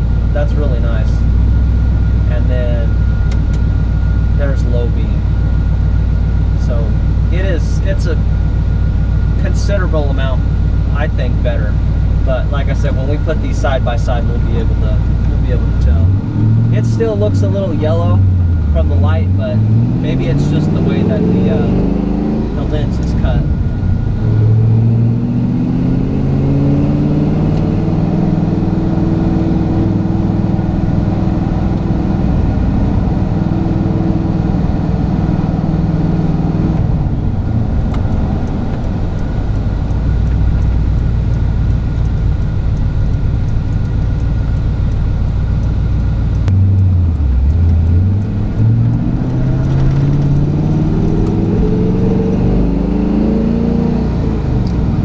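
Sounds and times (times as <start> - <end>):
pickup engine running: 0.0 - 55.0
road noise inside cab: 0.0 - 55.0.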